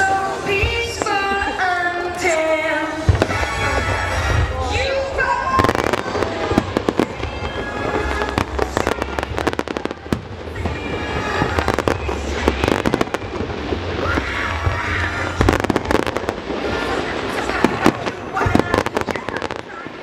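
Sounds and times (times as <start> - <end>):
fireworks bangs and crackles: 0.0 - 20.0
music: 0.0 - 20.0.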